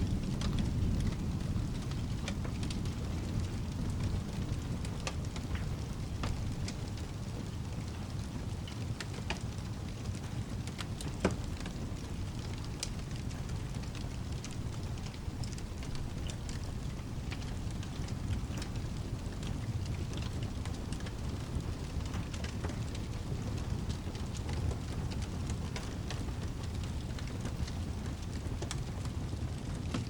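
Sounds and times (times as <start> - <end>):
steady rain: 0.0 - 30.0
wood fire crackling and popping: 0.0 - 30.0.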